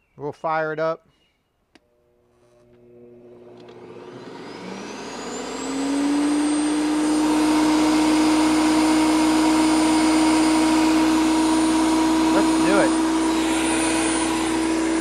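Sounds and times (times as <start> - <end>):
chipper shredder motor whine: 1.8 - 15.0.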